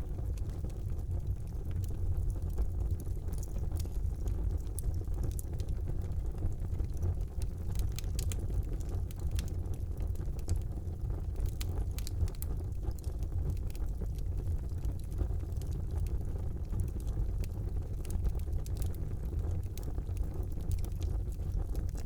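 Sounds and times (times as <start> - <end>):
burning wood crackling and popping: 0.0 - 22.0
fire flames rumbling: 0.0 - 22.0.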